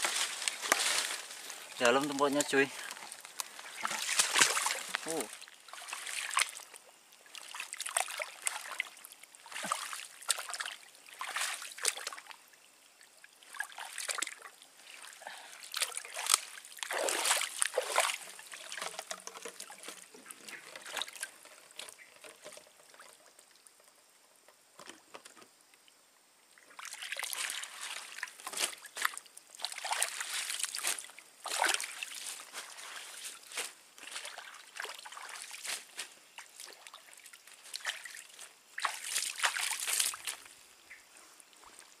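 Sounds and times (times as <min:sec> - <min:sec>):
water sloshing and splashing: 0:00.0 - 0:24.1, 0:26.6 - 0:42.0.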